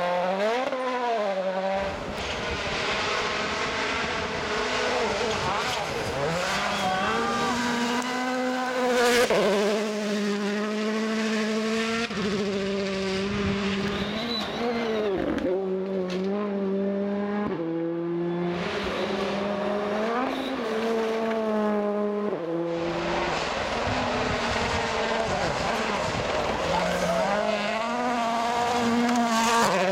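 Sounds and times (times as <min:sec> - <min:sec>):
rally car engines revving: 0:00.0 - 0:29.9.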